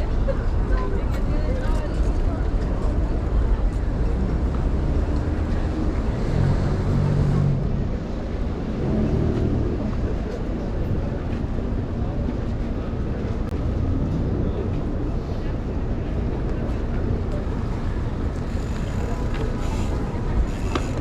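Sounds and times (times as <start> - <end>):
city traffic: 0.0 - 21.0.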